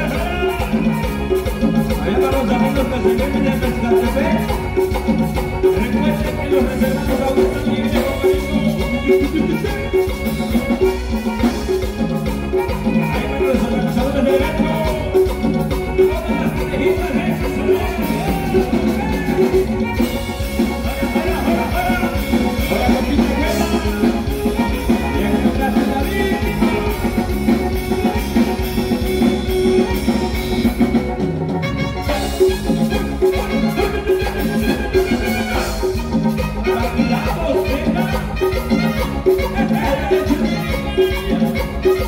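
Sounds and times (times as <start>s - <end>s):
accordion melody: 0.0s - 42.0s
drum kit playing dance beat: 0.0s - 42.0s
electric bass: 0.0s - 42.0s.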